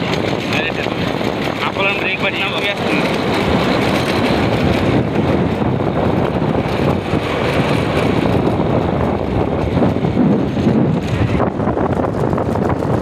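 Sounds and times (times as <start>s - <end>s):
vehicle rumbling: 0.0s - 13.0s
wind buffeting the microphone: 0.0s - 13.0s.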